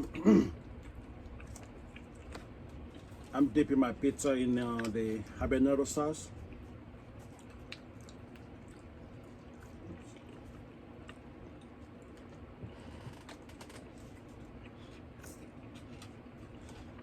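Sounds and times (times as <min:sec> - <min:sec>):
person chewing food: 0:00.0 - 0:03.3, 0:06.4 - 0:17.0.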